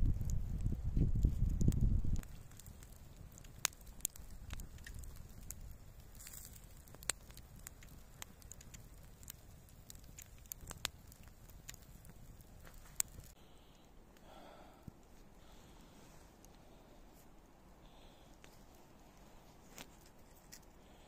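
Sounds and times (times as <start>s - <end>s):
sharp crackles and pops: 0.0s - 21.0s.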